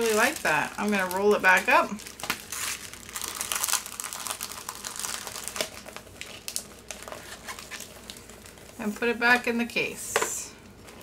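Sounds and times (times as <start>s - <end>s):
paper crinkling and rustling: 0.0s - 8.9s.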